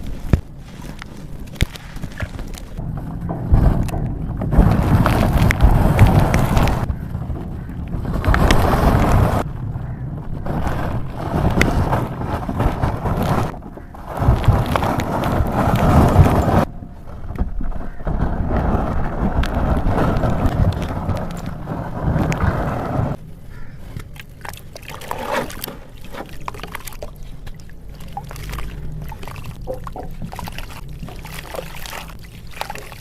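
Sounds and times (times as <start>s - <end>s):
dirt and coal crunching: 0.0s - 33.0s.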